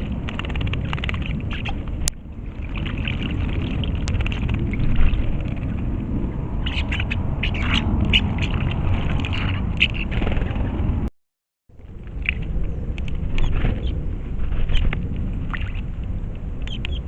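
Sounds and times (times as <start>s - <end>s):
wind buffeting microphone: 0.0s - 11.1s, 11.8s - 17.0s.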